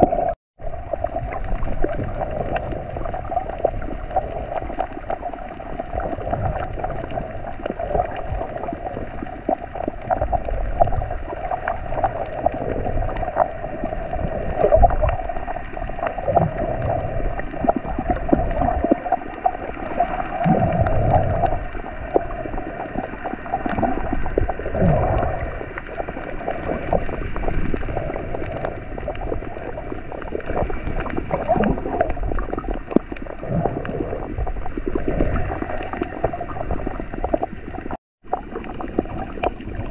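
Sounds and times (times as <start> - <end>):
low water surges: 0.0 - 39.9
muffled underwater rush: 0.0 - 39.9
water gurgling: 0.0 - 39.9.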